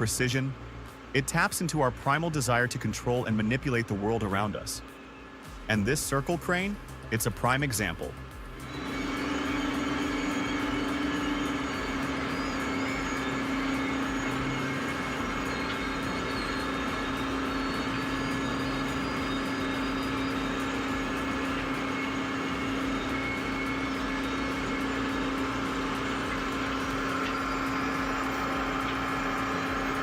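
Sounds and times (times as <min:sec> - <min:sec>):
heavy machinery engine drone: 0:00.0 - 0:30.0.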